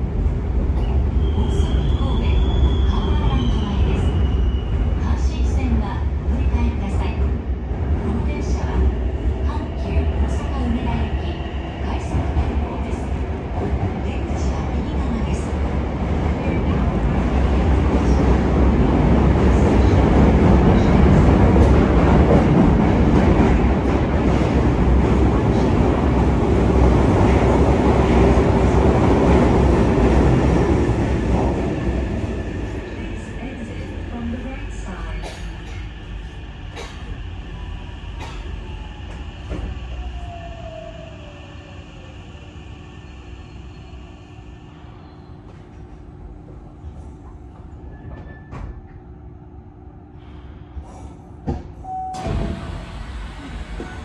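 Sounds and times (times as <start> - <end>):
train wheels rumbling on rail: 0.0 - 49.2, 50.3 - 54.0.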